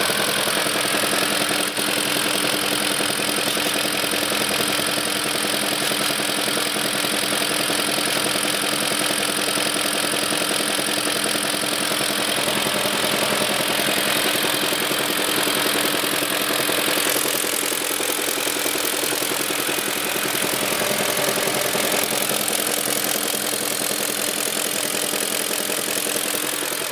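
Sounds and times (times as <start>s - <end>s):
car engine idling: 0.0s - 26.9s
fast even engine knock: 0.0s - 26.9s.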